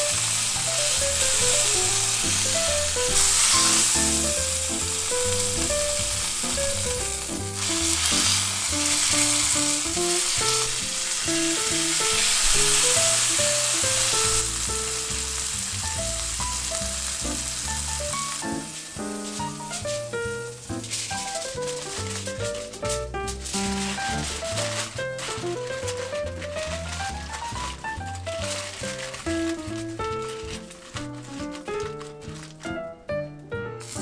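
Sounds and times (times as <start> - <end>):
steak sizzling in a frying pan: 0.0 - 32.6, 33.8 - 34.0
light melodic background tune: 0.0 - 34.0.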